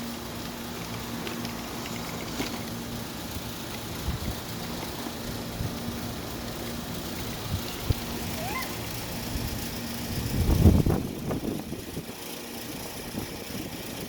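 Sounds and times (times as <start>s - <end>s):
steady motor hum: 0.0s - 14.0s.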